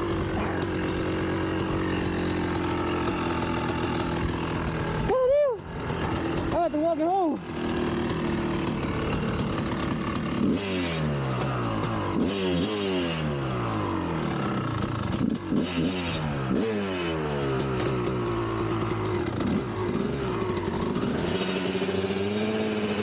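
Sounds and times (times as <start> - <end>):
two-stroke engine revving: 0.0 - 23.0.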